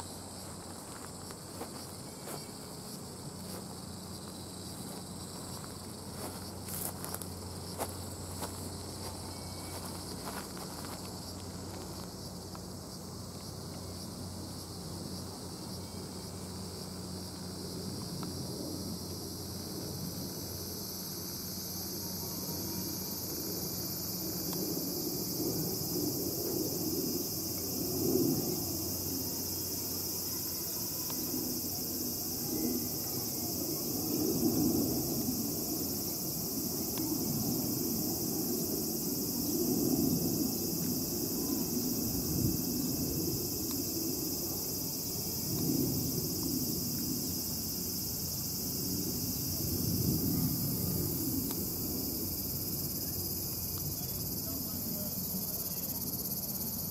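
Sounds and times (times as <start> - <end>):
high-pitched insect chorus: 0.0 - 56.9.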